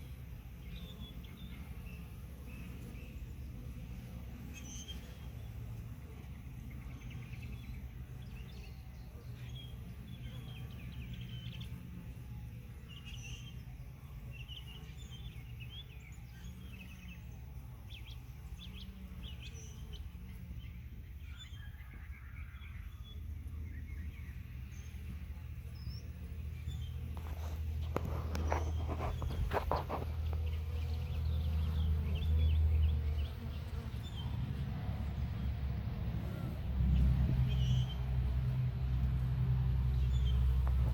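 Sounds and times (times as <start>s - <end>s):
small birds chirping: 0.0s - 39.2s, 39.8s - 40.9s
honey bees buzzing: 0.0s - 40.9s.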